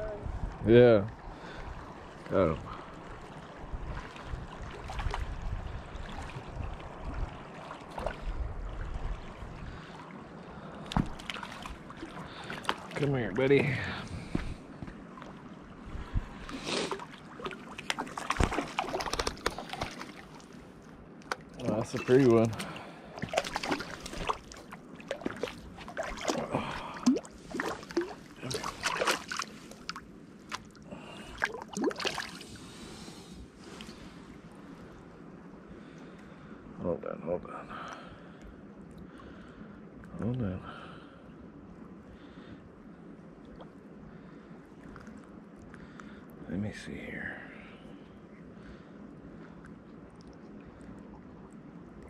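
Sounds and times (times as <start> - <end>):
low uneven rumble: 0.0 - 52.0
river water running: 0.0 - 52.0.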